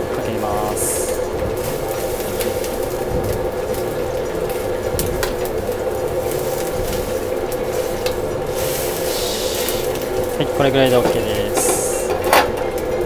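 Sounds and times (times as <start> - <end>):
steady background hum: 0.0 - 13.0
water splashing and draining: 0.0 - 13.0.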